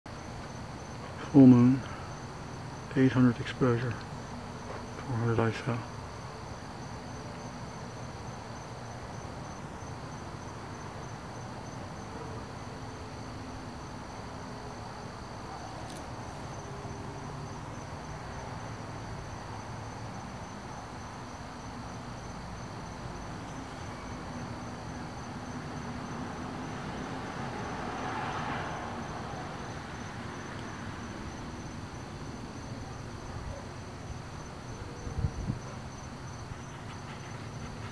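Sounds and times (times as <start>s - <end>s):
crickets trilling: 0.1s - 37.9s.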